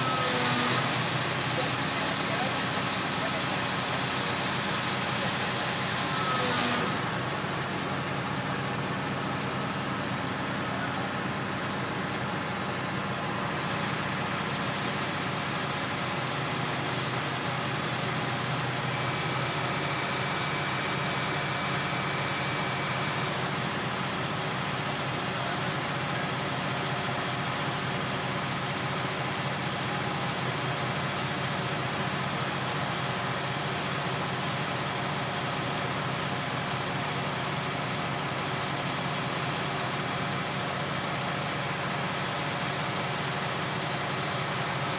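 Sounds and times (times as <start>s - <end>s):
heavy engine running: 0.0s - 44.9s.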